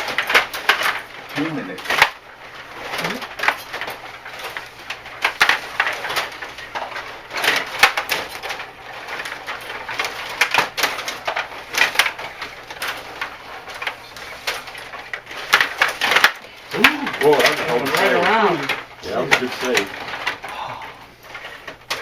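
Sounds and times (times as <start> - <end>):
hard objects clacking together: 0.0 - 20.6.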